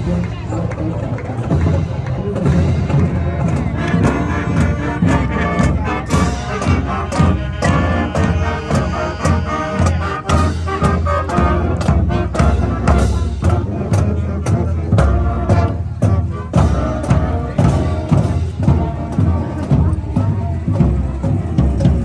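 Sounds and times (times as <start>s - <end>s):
band music with brass: 0.0s - 22.0s
steady drum beat: 1.2s - 22.0s.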